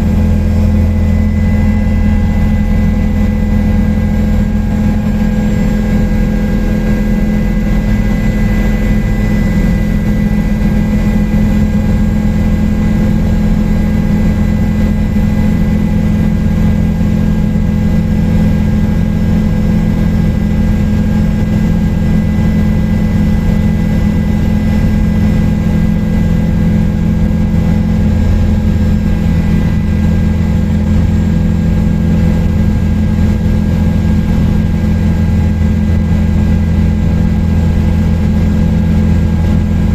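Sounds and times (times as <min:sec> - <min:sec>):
constant whining tones: 0:00.0 - 0:39.9
helicopter rotor and engine drone: 0:00.0 - 0:39.9.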